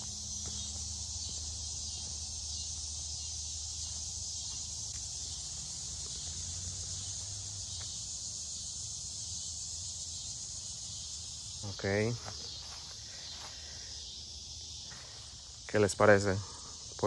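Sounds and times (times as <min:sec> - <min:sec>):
insects buzzing drone: 0:00.0 - 0:17.0.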